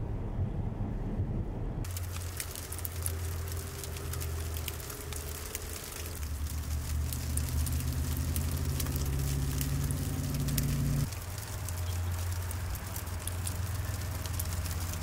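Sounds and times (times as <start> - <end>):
vehicle engine hum: 0.0 - 15.0
fine crackling ticks: 1.9 - 15.0.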